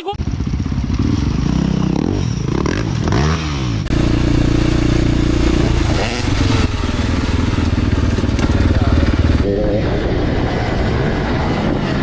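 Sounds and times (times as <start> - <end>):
dirt bike engines revving: 0.0 - 11.8.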